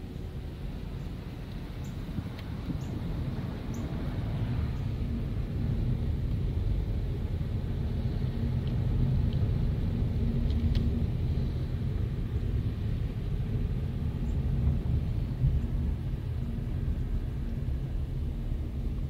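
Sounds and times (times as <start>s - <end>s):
car engine and tyres rumbling: 0.0s - 19.0s
steady hum: 0.0s - 19.0s.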